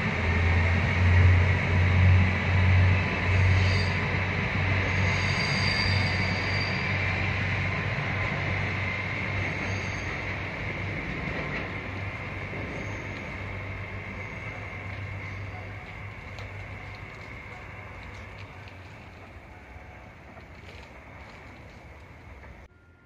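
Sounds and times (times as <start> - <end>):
diesel train running past: 0.0 - 23.0
high wheel squeals: 2.6 - 23.0.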